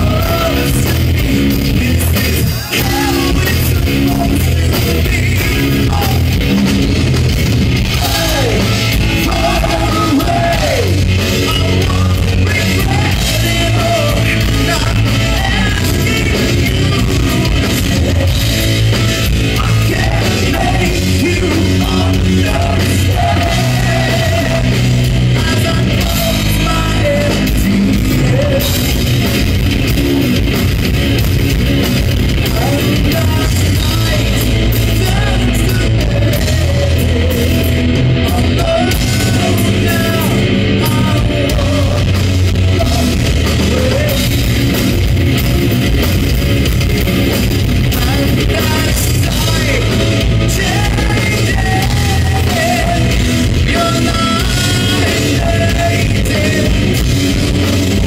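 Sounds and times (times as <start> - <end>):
person singing lead vocal: 0.0 - 7.1, 7.8 - 29.1, 32.4 - 44.8, 47.8 - 58.0
bass guitar: 0.0 - 58.0
distorted electric guitars: 0.0 - 58.0
drum kit: 0.0 - 58.0.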